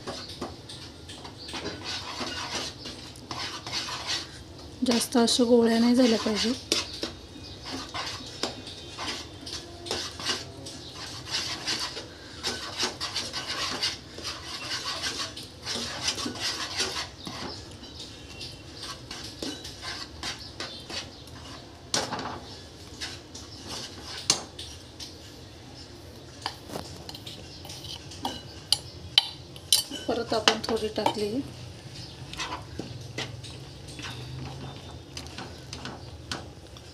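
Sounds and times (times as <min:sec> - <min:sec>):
spatula scraping frying pan: 0:00.0 - 0:25.1, 0:26.4 - 0:36.9.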